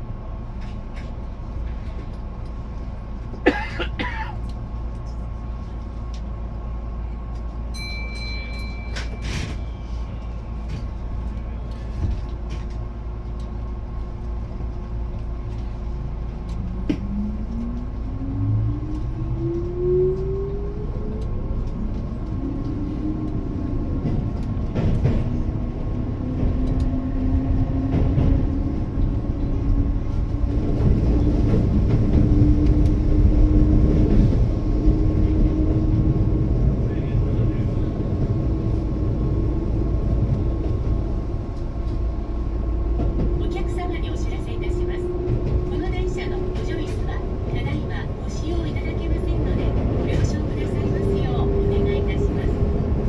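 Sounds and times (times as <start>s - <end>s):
wheels rumbling on rail: 0.0s - 53.0s.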